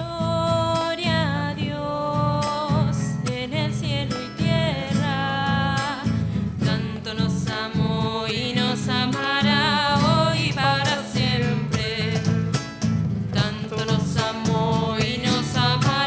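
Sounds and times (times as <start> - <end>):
woman singing a hymn: 0.0 - 12.4, 13.3 - 16.0.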